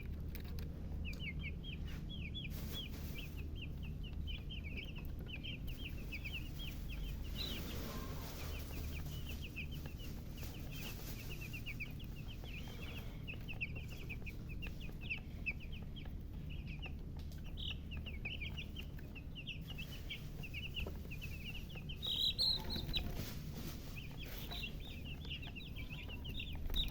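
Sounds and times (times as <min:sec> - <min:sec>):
chicks peeping: 0:00.0 - 0:26.9
low steady hum: 0:00.0 - 0:26.9.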